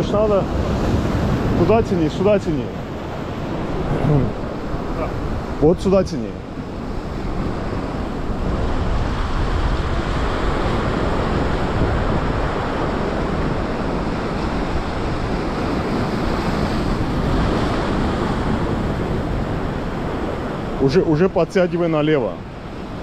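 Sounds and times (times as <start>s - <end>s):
sea surf washing: 0.0s - 23.0s
wind rumbling on microphone: 0.0s - 23.0s.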